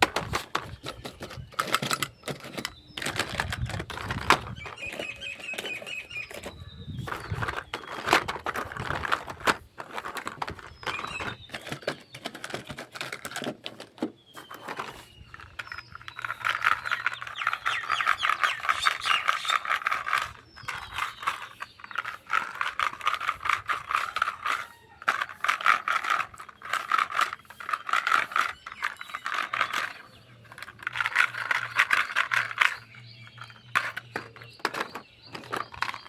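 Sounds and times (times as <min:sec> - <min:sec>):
plastic toy pieces clicking: 0:00.0 - 0:36.0.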